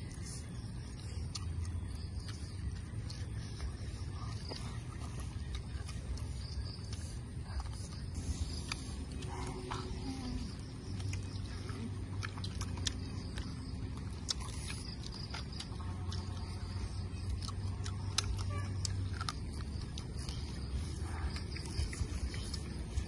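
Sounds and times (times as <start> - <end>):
low steady rumble: 0.0 - 23.0
people chewing with mouths open: 0.0 - 23.0.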